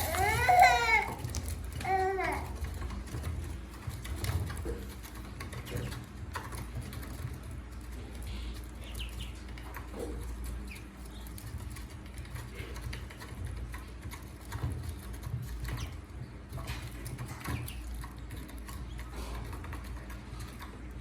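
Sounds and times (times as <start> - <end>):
ducklings peeping: 0.0 - 19.9.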